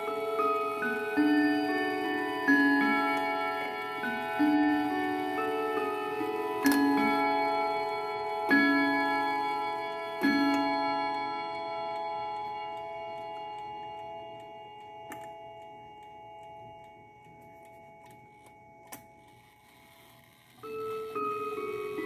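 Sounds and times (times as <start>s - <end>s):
clock chime strokes: 0.0s - 18.8s.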